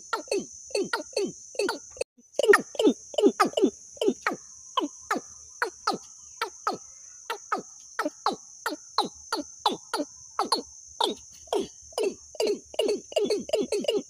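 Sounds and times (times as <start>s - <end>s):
high insect-like buzz: 0.0s - 14.0s
repeated downward bird call: 0.0s - 14.0s.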